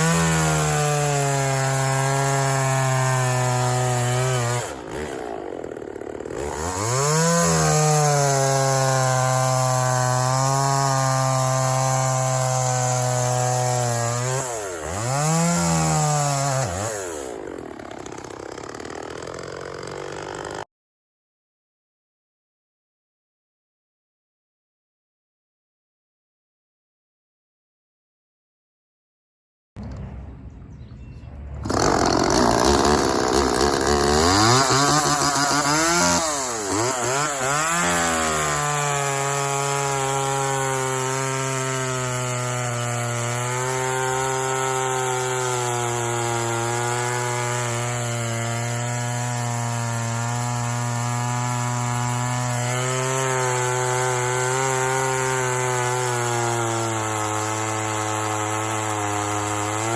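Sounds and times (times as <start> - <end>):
chainsaw running: 0.0 - 20.7, 31.6 - 59.9.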